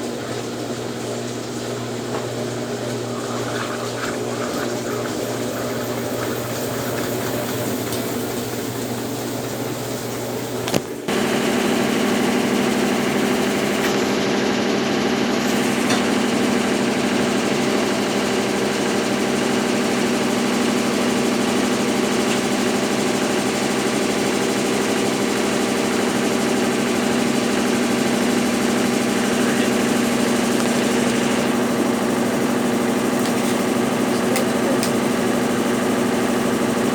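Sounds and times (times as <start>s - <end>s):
washing machine motor humming: 0.0s - 36.9s.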